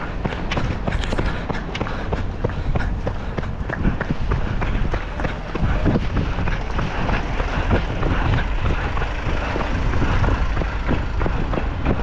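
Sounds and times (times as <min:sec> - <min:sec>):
running footsteps on road: 0:00.0 - 0:12.0
wind buffeting microphone: 0:00.0 - 0:12.0.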